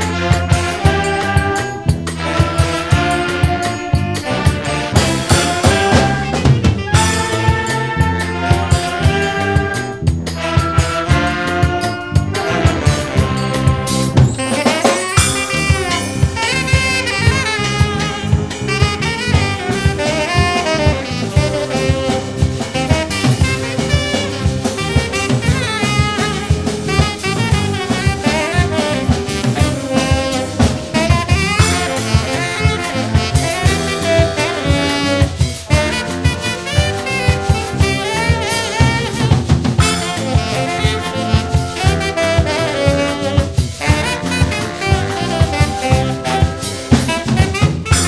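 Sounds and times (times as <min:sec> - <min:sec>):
brass band playing: 0:00.0 - 0:48.0
lead horn quick phrases: 0:00.0 - 0:48.0.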